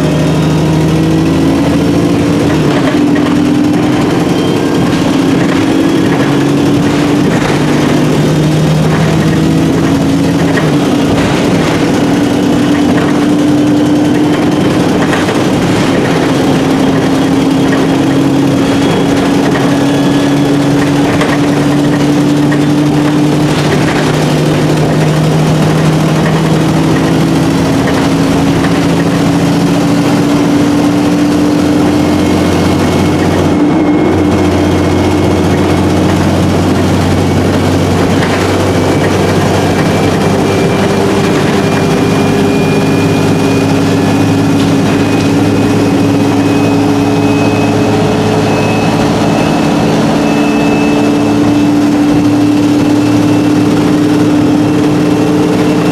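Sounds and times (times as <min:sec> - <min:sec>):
bus engine running: 0:00.0 - 0:55.9
thin high whine: 0:01.7 - 0:55.9.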